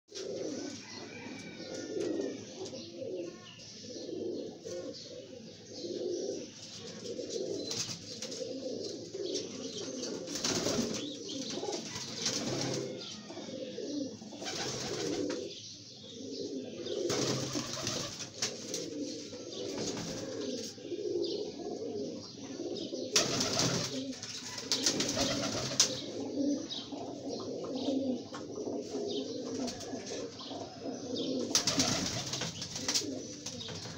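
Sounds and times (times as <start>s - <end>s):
pigeons cooing: 0.1s - 33.9s.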